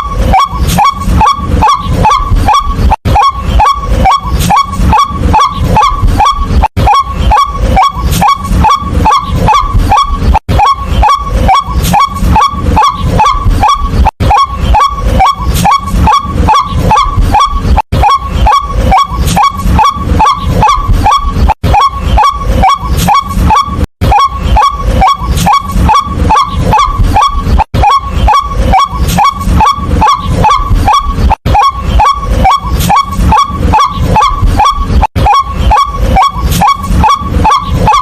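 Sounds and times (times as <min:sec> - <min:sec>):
bird calling upward-sweeping notes: 0:00.0 - 0:38.0.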